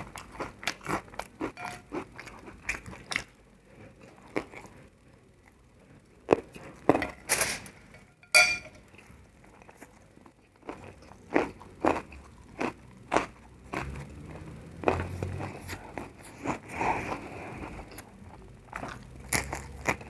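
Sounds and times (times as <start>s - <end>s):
crunchy food chewing: 0.0s - 7.1s, 8.9s - 20.0s.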